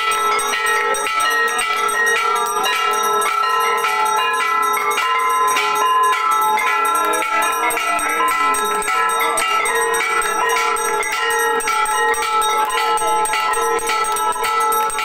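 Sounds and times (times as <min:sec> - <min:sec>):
temple bells clanging rapidly: 0:00.0 - 0:15.0.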